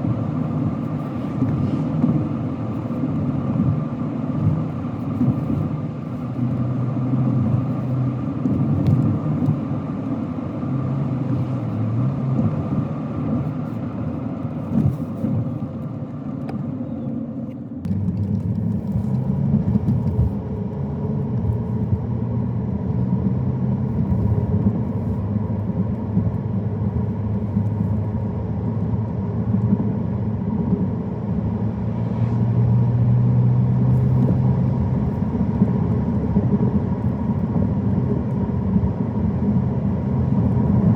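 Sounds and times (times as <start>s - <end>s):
car engine hum: 0.0s - 40.9s
tyre noise on road: 0.0s - 40.9s.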